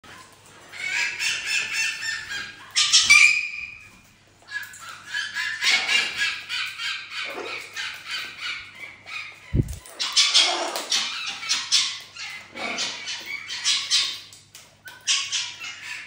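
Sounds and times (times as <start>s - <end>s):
parrots squawking and chattering: 0.1s - 16.0s.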